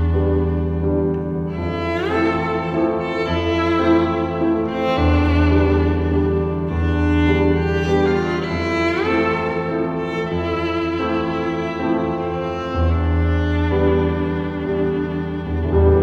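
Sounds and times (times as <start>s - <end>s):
cello: 0.0s - 16.0s
violin melody: 0.0s - 16.0s.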